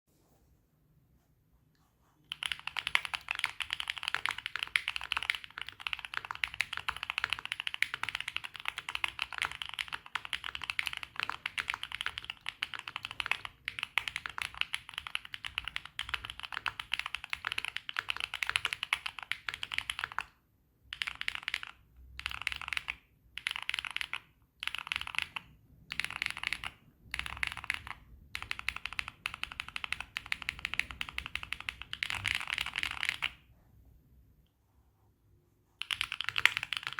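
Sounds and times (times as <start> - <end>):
mechanical keyboard typing: 2.3 - 33.4, 35.8 - 36.9.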